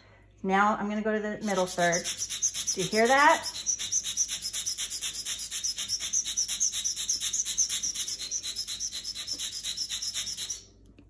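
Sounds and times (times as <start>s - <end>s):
blade scraping on sharpening stone: 1.4s - 10.6s.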